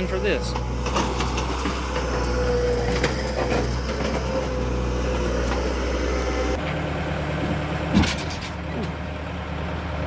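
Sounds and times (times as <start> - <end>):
skid steer engine running: 0.0 - 10.0.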